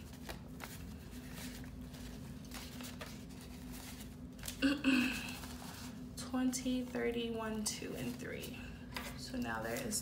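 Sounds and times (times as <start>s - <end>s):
banknotes rustling and flicking: 0.0s - 10.0s.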